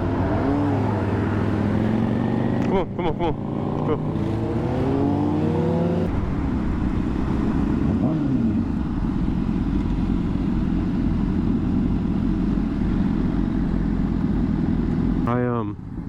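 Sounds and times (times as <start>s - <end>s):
motorcycle engine revving: 0.0s - 16.0s
road and wind noise: 0.0s - 16.0s.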